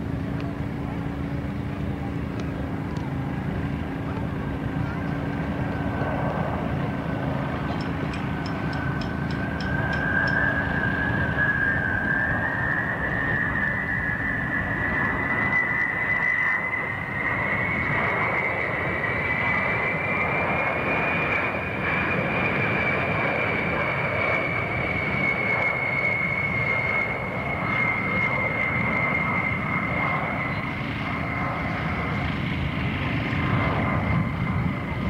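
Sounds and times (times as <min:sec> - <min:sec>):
jet aircraft roar with high whine: 0:00.0 - 0:35.0.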